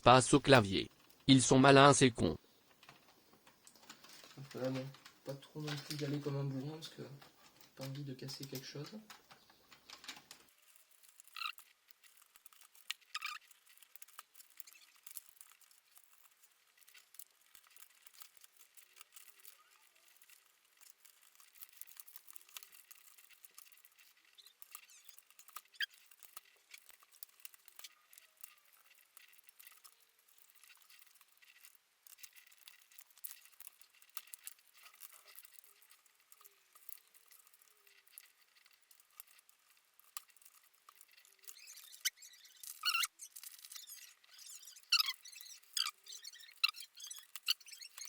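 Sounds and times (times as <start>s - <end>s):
short squeaks: 8.6s - 48.0s.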